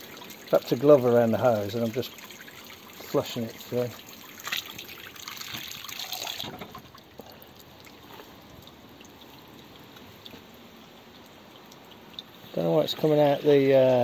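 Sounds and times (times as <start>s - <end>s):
water splashing onto ground: 0.0s - 13.2s.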